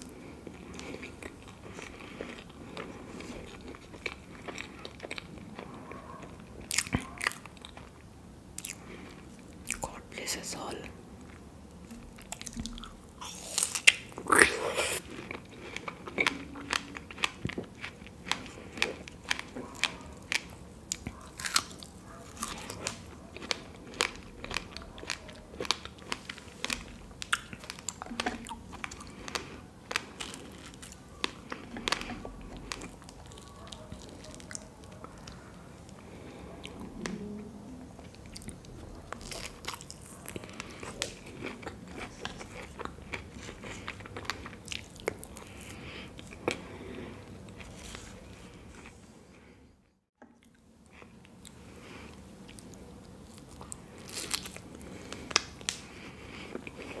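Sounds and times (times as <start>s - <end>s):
chewing with wet mouth clicks: 0.0s - 10.0s, 11.2s - 37.2s, 37.9s - 48.9s.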